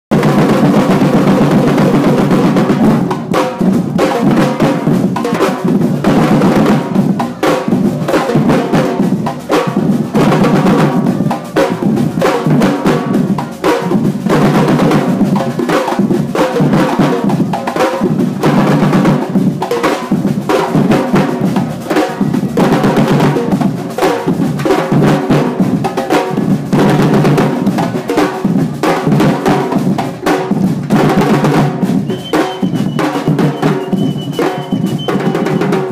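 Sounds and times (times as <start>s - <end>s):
percussion group drumming: 0.1s - 35.9s.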